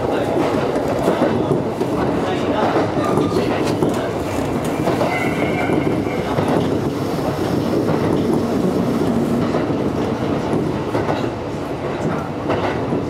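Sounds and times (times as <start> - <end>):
train wheel-on-rail running noise: 0.0 - 13.0.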